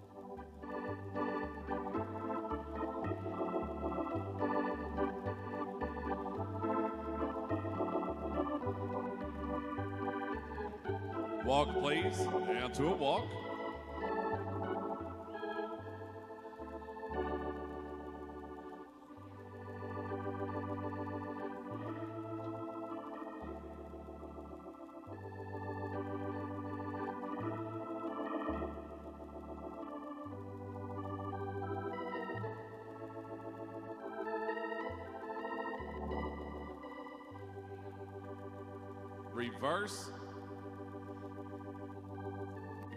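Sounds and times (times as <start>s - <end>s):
organ playing sustained chords: 0.0s - 42.9s.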